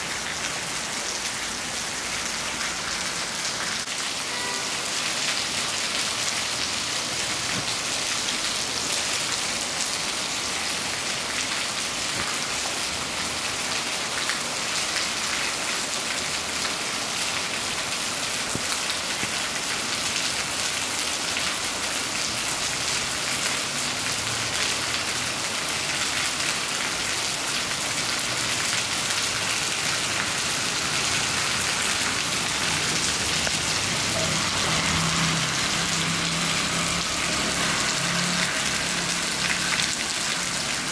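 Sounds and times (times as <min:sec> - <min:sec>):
heavy rain on wet pavement: 0:00.0 - 0:40.9.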